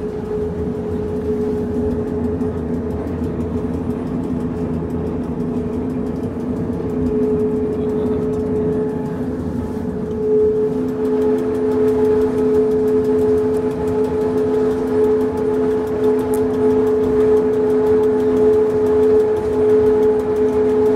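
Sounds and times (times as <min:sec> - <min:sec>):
low running rumble: 0:00.0 - 0:20.9
railcar drive whine: 0:00.0 - 0:20.9.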